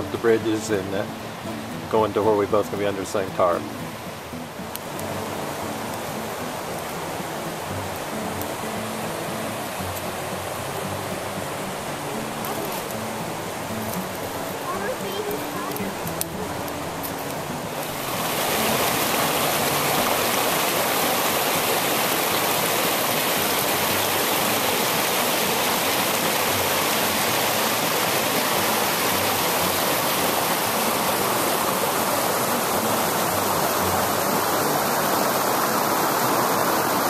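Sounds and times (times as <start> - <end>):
river water rushing over rocks: 0.0 - 37.0.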